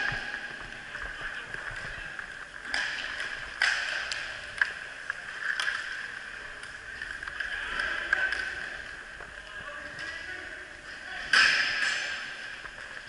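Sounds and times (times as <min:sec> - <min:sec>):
sticks and puck clacking: 0:00.0 - 0:13.0.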